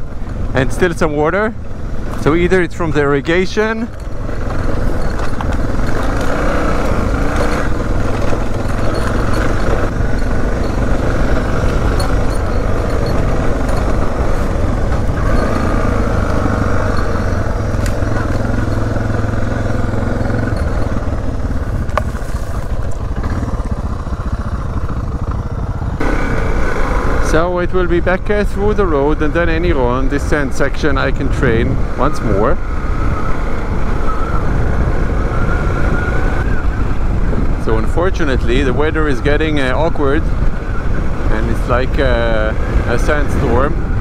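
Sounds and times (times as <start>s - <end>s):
off-road motorcycle engine: 0.0s - 44.0s.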